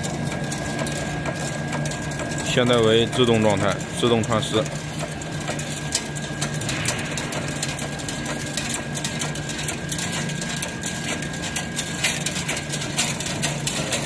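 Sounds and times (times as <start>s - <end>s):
fence machine motor hum: 0.0s - 14.0s
rapid machine clicking: 0.0s - 14.0s
thin machine whine: 0.0s - 14.0s.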